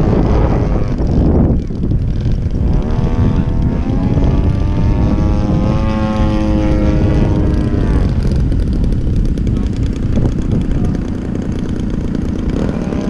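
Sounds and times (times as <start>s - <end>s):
model airplane engine droning: 0.0s - 13.0s.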